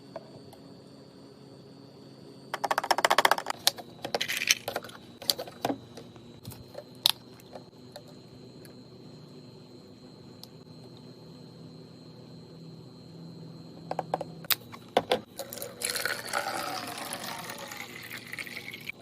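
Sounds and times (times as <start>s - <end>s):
low hum with high whine: 0.0s - 19.0s.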